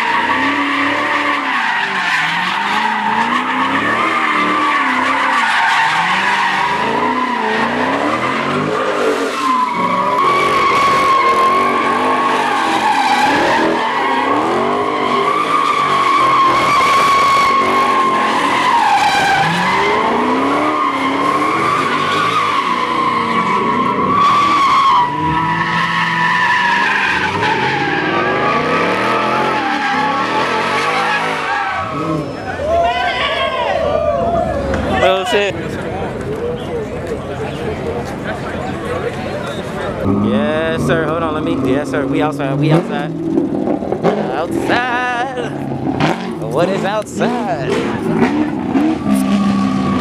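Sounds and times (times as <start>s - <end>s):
car engines revving: 0.0s - 50.0s
tires squealing on asphalt: 0.0s - 50.0s.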